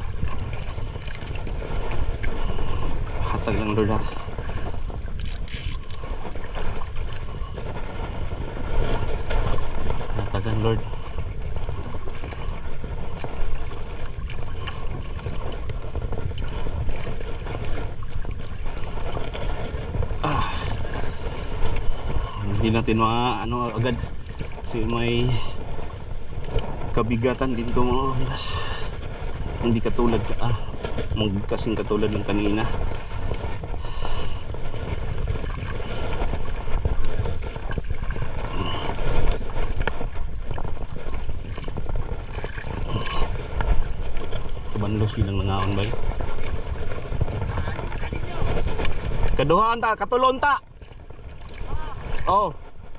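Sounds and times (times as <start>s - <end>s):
water washing around a boat: 0.0s - 52.9s
wind rumbling on microphone: 0.0s - 52.9s.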